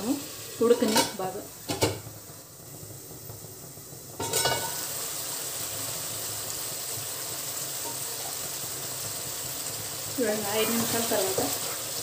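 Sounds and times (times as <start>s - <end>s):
curry simmering in a pan: 0.0s - 12.0s.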